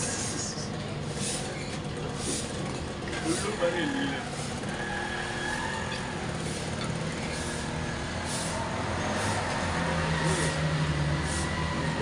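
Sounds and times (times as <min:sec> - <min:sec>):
engine rumble: 0:00.0 - 0:12.0.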